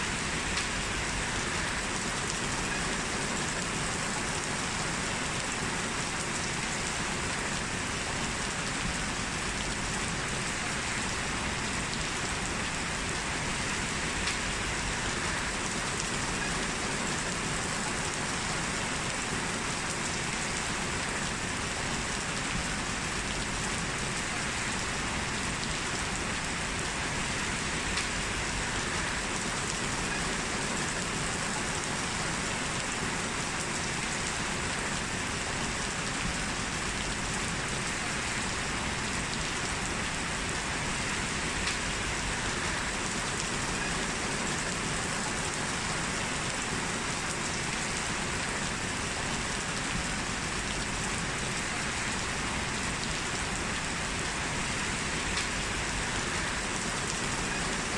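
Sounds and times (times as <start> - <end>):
heavy rain on hard surface: 0.0 - 57.9.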